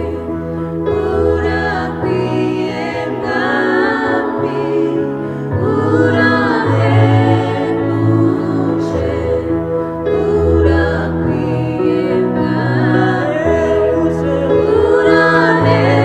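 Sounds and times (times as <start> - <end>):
electronic keyboard chords: 0.0 - 16.0
group singing worship song: 0.0 - 16.0.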